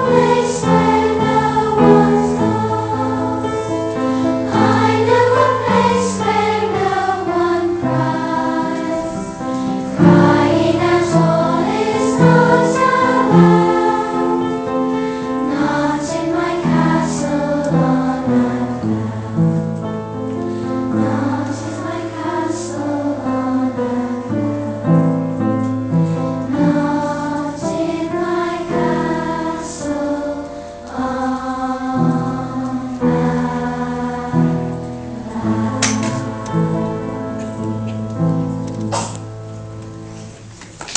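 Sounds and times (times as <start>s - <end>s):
choir singing: 0.0s - 37.8s.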